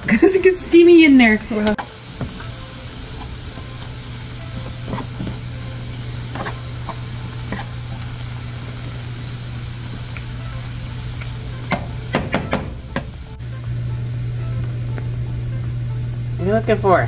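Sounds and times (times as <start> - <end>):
low hum: 0.0 - 17.0
waffle iron steaming hiss: 0.0 - 17.0.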